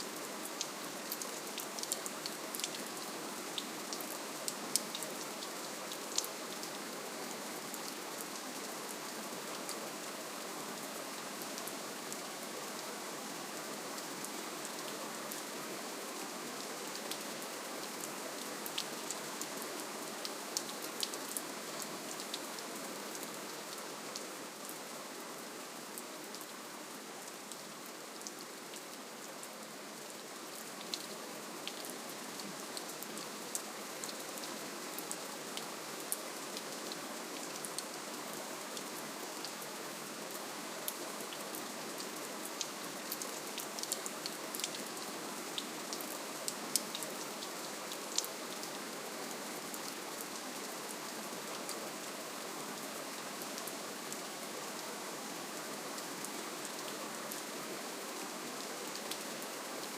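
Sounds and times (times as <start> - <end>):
gentle rainfall: 0.0 - 59.9.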